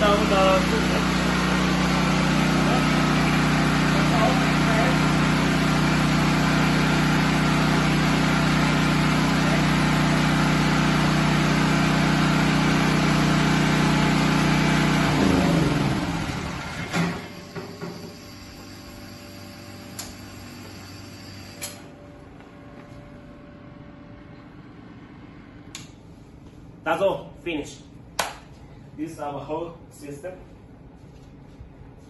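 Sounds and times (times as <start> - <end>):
generator engine running: 0.0 - 26.8.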